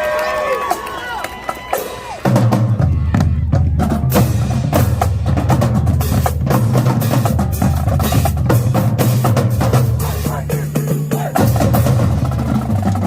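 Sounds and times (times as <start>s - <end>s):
marching drumline cadence: 0.0s - 13.0s.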